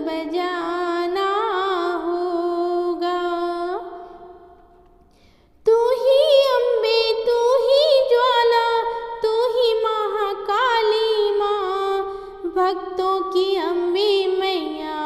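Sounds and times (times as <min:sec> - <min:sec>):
woman singing devotional song: 0:00.0 - 0:04.8, 0:05.6 - 0:15.0.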